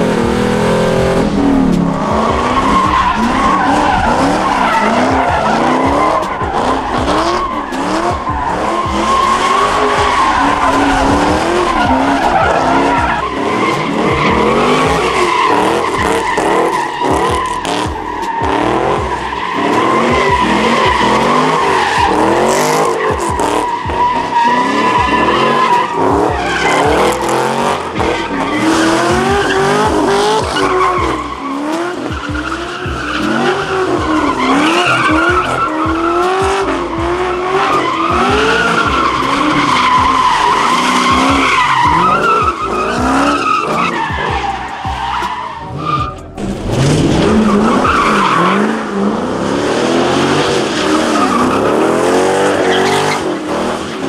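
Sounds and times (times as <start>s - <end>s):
car engine revving: 0.0s - 54.0s
tyres squealing: 0.7s - 54.0s.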